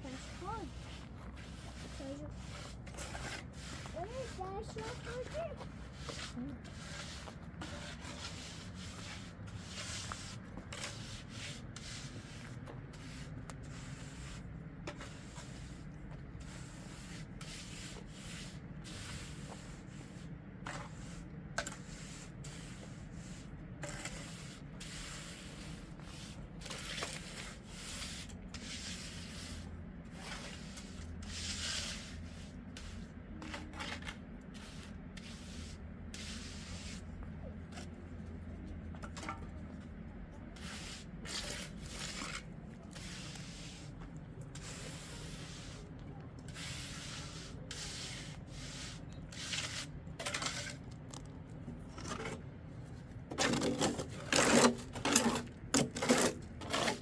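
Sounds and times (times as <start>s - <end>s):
scraping strokes: 0.0s - 37.1s, 40.6s - 50.9s, 53.3s - 57.0s.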